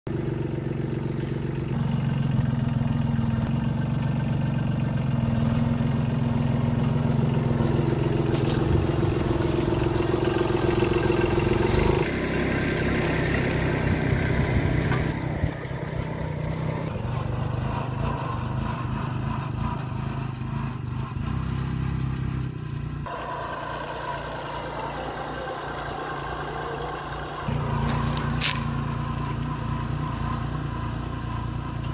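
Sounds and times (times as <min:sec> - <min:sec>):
tractor diesel engine under load: 0:00.1 - 0:31.9.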